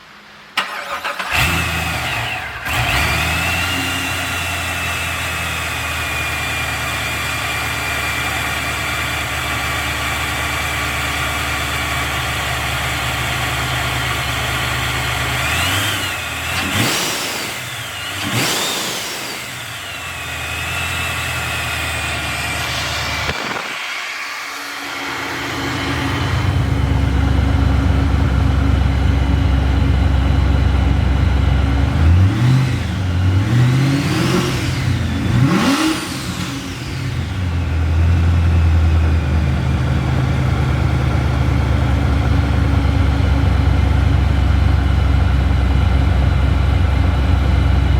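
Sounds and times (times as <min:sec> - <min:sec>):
supercharger whine: 0:00.0 - 0:47.9
car engine starting and idling: 0:00.2 - 0:47.9.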